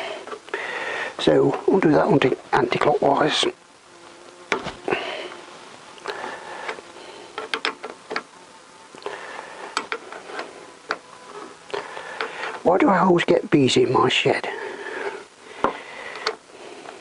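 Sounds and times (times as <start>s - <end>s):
bee buzzing: 0.0s - 12.7s, 14.4s - 17.0s.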